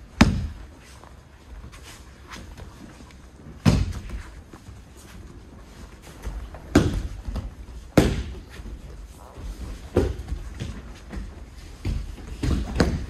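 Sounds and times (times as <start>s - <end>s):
people falling onto mats: 0.0s - 13.0s.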